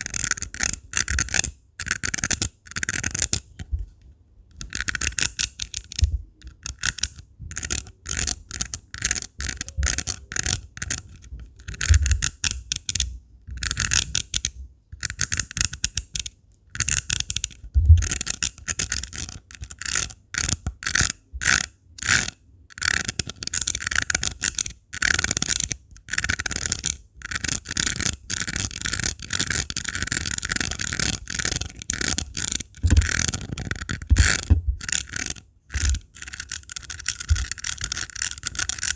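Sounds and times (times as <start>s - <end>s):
rhinestones scratching: 0.0s - 3.4s, 4.6s - 14.2s, 18.0s - 38.9s.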